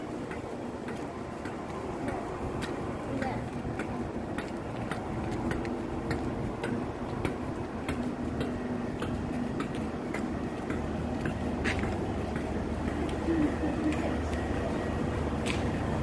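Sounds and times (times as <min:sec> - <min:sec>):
sharp ticks: 0:00.0 - 0:15.8
electric train humming: 0:00.0 - 0:16.0.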